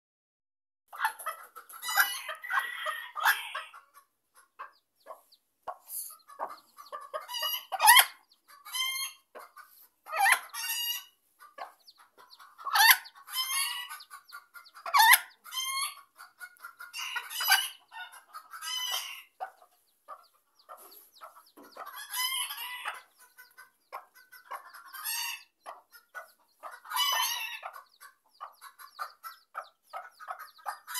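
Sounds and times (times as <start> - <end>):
chicks peeping: 0.9 - 30.9
hen clucking and calling: 0.9 - 30.9.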